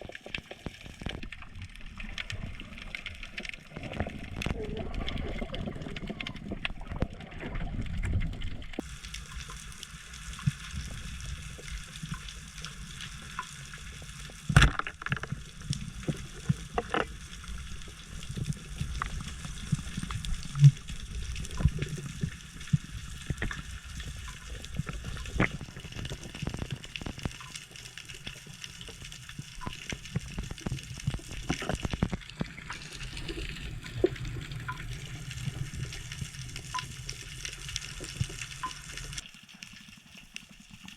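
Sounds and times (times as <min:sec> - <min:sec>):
underwater hiss with crackling clicks: 0:00.0 - 0:07.2, 0:08.0 - 0:40.9.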